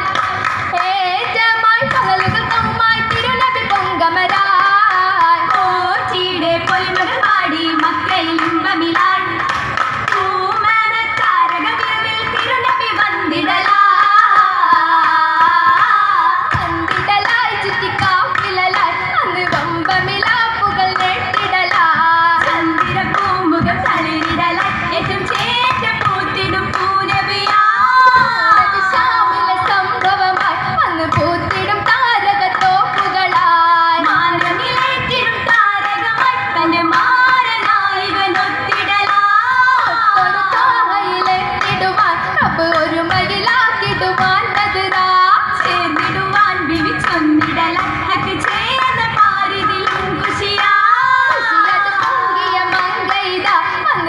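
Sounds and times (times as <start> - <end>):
girls singing: 0.0 - 54.0
rhythmic handclaps: 0.0 - 54.0.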